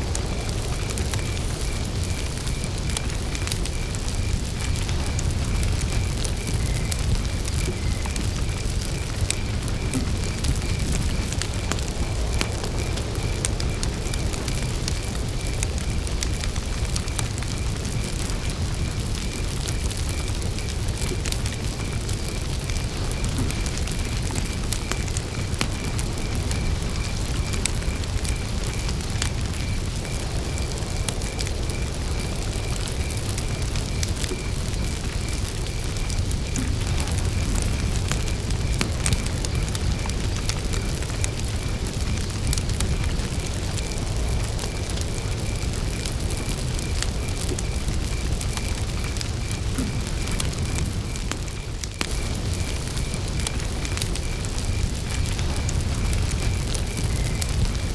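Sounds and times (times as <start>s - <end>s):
campfire crackling: 0.0s - 57.9s
cricket chirping: 0.0s - 57.9s.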